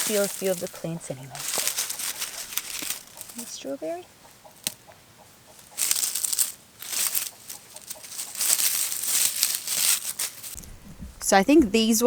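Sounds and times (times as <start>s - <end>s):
chickens clucking: 0.0s - 12.0s
rustling and crackling: 0.0s - 12.0s.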